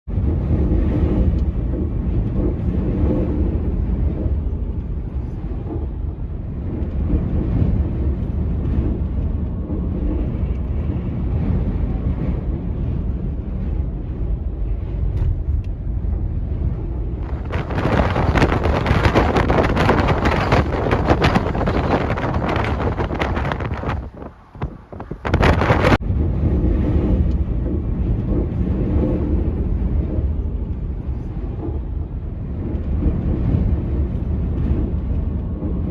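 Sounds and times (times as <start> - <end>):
wind buffeting microphone: 0.1 - 35.9.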